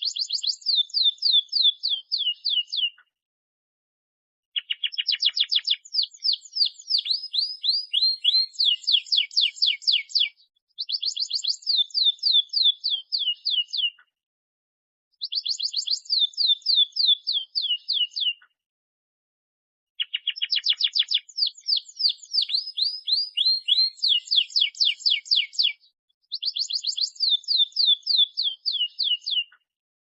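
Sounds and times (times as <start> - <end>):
canary singing trills: 0.0 - 3.0, 4.6 - 14.1, 15.2 - 18.4, 20.0 - 29.6.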